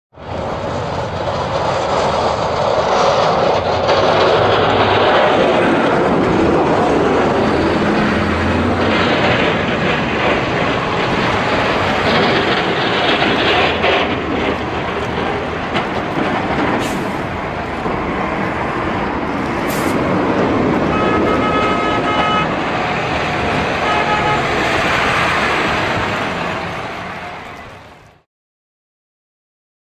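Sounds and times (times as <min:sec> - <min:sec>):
snowplow passing by: 0:00.2 - 0:28.2.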